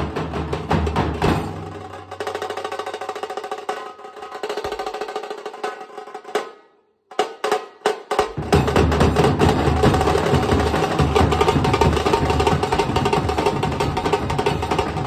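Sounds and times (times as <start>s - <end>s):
deep dhol beats: 0.0s - 5.4s, 8.2s - 15.0s
rapid drum roll of lighter strokes: 0.0s - 6.2s, 8.2s - 15.0s.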